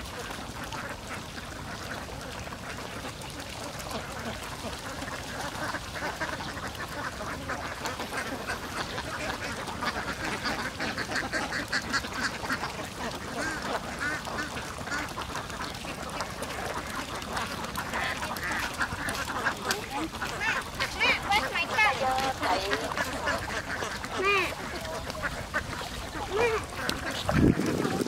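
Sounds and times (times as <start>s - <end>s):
ducks quacking: 0.0s - 28.0s.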